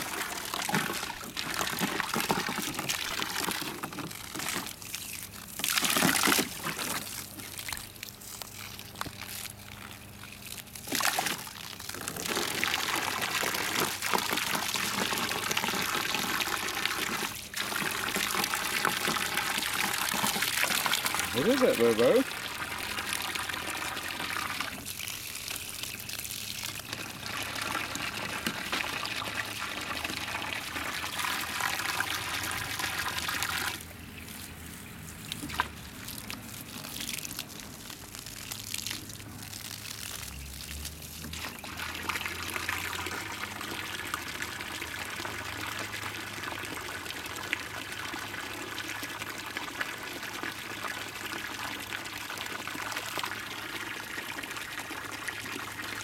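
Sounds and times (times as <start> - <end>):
water pouring from garden hose: 0.0 - 56.0.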